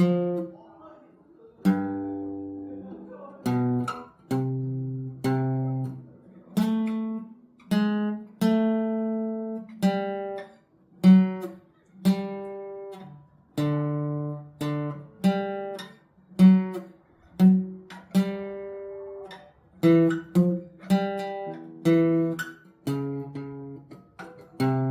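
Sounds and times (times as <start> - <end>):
acoustic guitar melody: 0.0 - 24.9.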